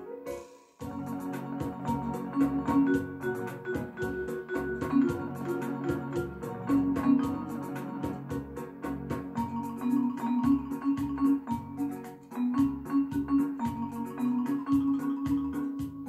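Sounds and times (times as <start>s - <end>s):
electronic organ melody: 0.0s - 16.0s
steady ticking beat: 0.8s - 16.0s.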